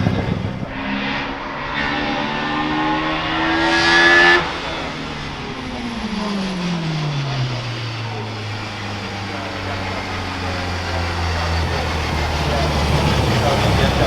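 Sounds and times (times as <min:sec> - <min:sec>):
race car engine accelerating: 0:00.0 - 0:14.0.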